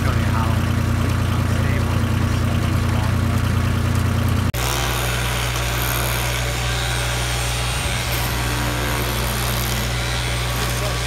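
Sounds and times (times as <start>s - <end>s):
construction machinery engine humming: 0.0s - 11.0s.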